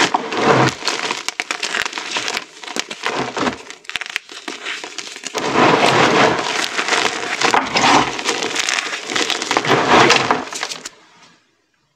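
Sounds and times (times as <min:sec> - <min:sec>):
chalk crunching in hands: 0:00.0 - 0:10.9.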